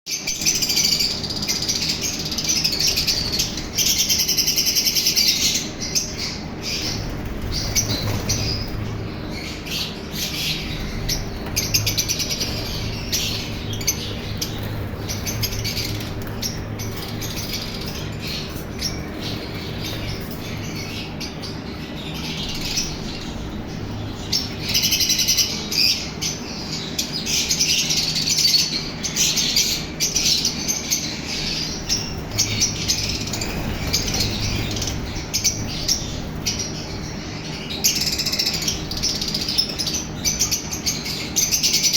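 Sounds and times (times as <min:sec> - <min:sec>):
lovebirds chirping and chattering: 0:00.1 - 0:41.9.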